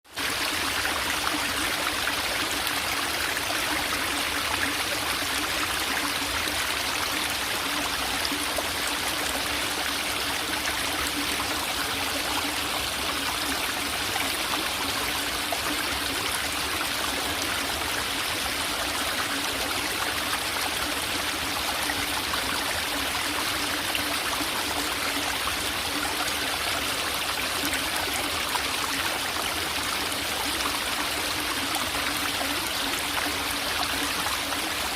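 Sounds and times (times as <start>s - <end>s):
stream trickling and gurgling: 0.1s - 34.9s.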